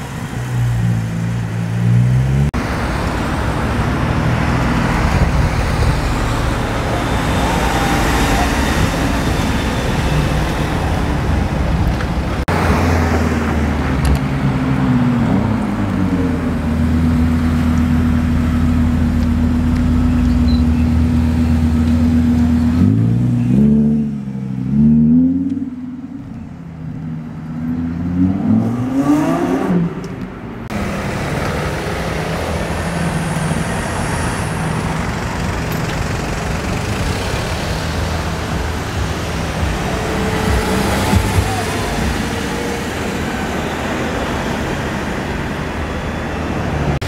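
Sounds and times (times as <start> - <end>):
street traffic: 0.0 - 47.0.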